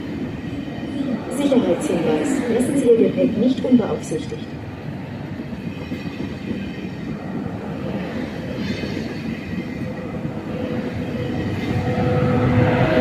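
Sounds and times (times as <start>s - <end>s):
steady whine: 0.0s - 13.0s
train rumbling on track: 0.0s - 13.0s.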